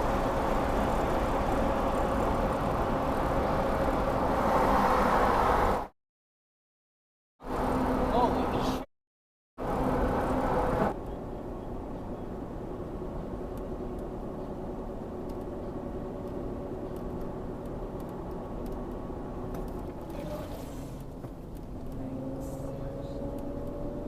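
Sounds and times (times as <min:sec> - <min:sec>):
car road and engine noise: 0:00.0 - 0:05.9, 0:07.4 - 0:08.9, 0:09.6 - 0:24.0.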